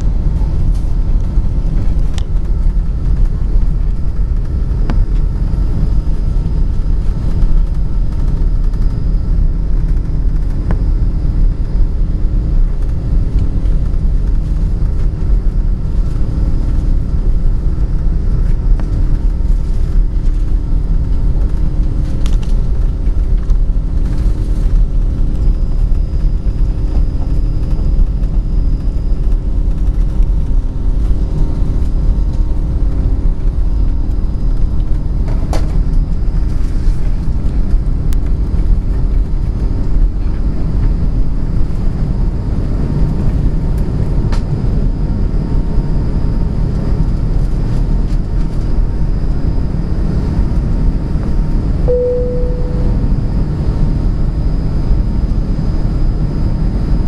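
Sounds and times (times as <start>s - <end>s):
faint engine hum: 0.0s - 57.0s
loud jet engine rumble: 0.0s - 57.0s.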